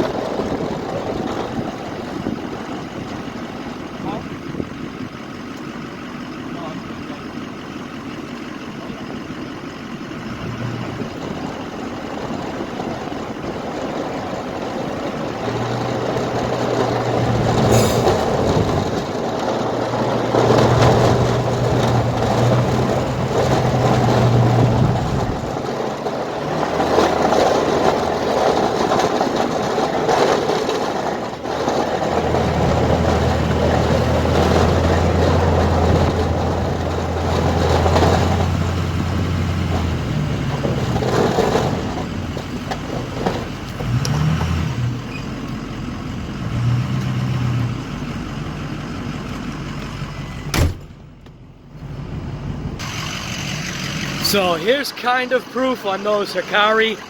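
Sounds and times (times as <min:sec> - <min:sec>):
rough clattering rumble: 0:00.0 - 0:55.2
truck engine running: 0:00.0 - 0:57.0.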